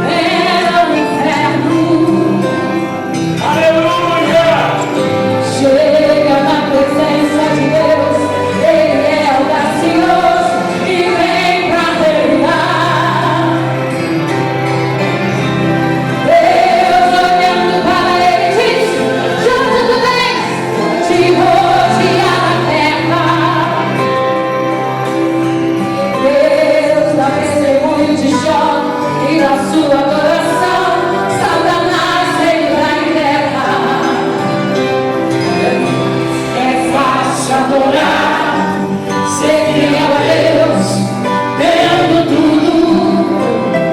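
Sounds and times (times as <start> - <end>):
women singing gospel song: 0.0 - 13.9, 16.0 - 24.3, 26.0 - 43.9
instrumental accompaniment: 0.0 - 43.9.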